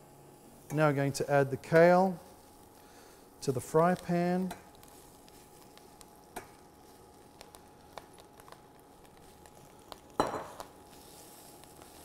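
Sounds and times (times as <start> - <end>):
leaves frying in oil: 0.5 - 12.0.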